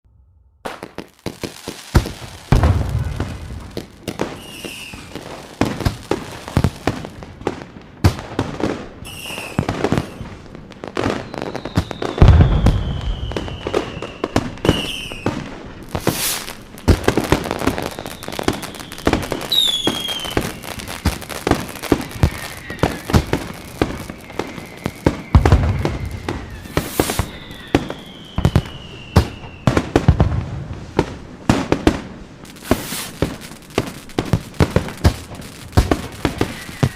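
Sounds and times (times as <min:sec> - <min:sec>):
deep firework booms: 0:00.1 - 0:36.9
whistling firework shells: 0:00.2 - 0:07.4, 0:08.3 - 0:36.9
fireworks crackling and popping: 0:00.6 - 0:36.9.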